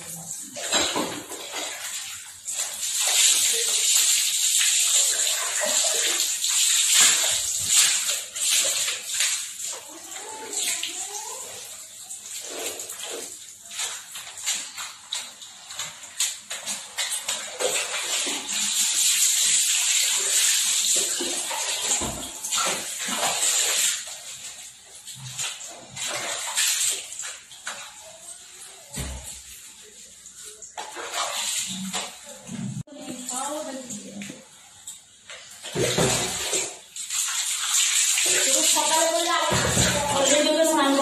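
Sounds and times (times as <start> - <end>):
water running and splashing: 0.0 - 41.0.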